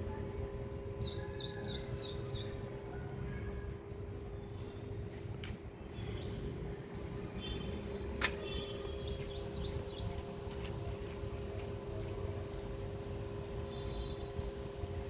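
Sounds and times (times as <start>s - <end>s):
steady hum: 0.0s - 15.0s
steady low rumble: 0.0s - 15.0s
small birds chirping: 0.7s - 10.3s, 12.5s - 15.0s.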